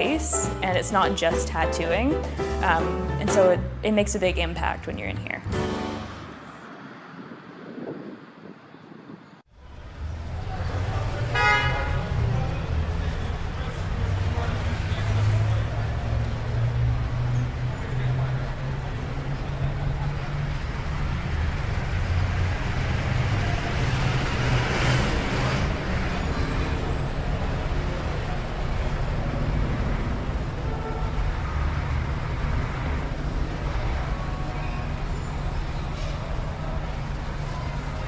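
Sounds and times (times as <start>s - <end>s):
low rumble of road traffic: 0.0s - 38.0s.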